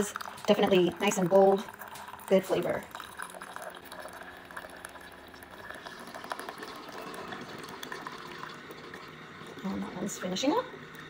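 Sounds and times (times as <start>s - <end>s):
coffee maker bubbling and gurgling: 0.0s - 11.0s.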